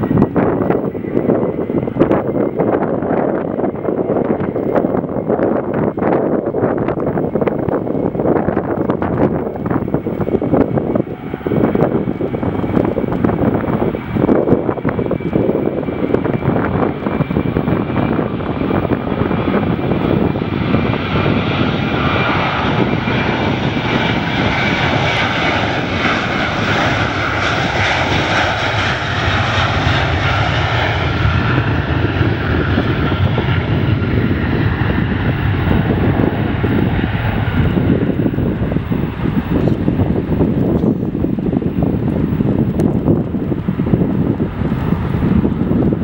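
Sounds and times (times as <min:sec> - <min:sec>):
jet engines passing: 0:00.0 - 0:46.0
wind rumble on microphone: 0:00.0 - 0:46.0.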